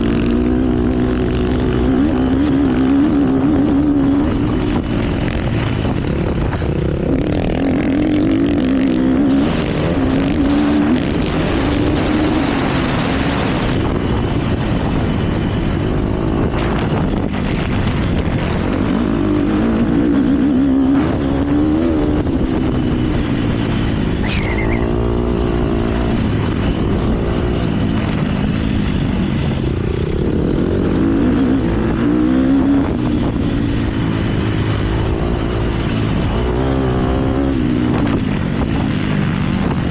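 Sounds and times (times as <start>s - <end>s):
motocross bike engine revving: 0.0s - 39.9s
wind-like rushing noise: 0.0s - 39.9s.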